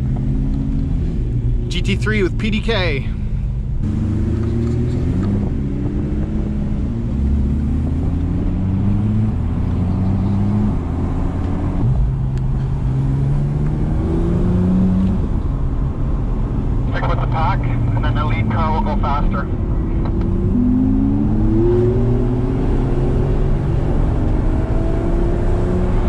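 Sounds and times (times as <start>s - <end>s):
car engine accelerating through gears: 3.6s - 26.0s.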